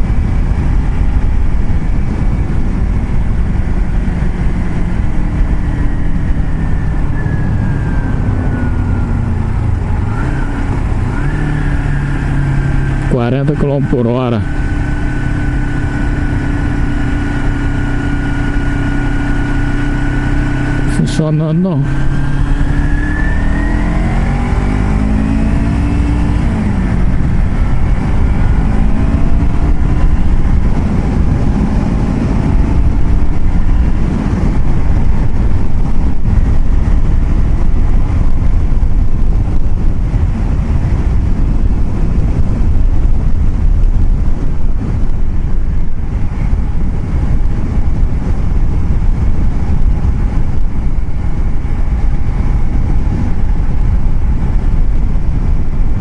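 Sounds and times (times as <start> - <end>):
road and wind noise: 0.0 - 56.0
vehicle engine accelerating: 0.0 - 56.0.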